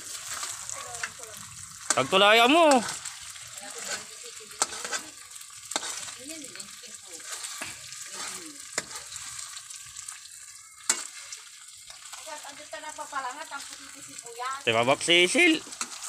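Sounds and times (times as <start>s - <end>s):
metal spatula scraping wok: 0.0s - 14.3s, 15.1s - 16.0s
rice sizzling in hot oil: 0.0s - 16.0s.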